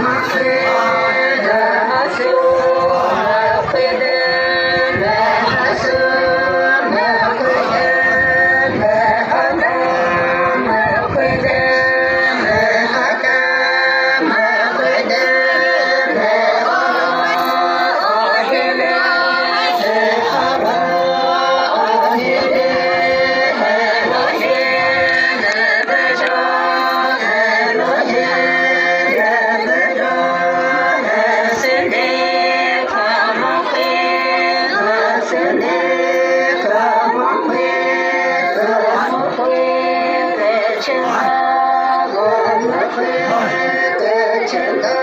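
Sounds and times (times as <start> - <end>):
group singing folk song: 0.0 - 45.0.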